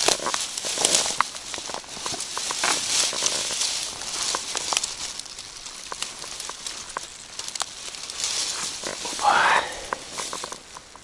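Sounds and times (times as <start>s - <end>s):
grass and reeds rustling: 0.0s - 11.0s.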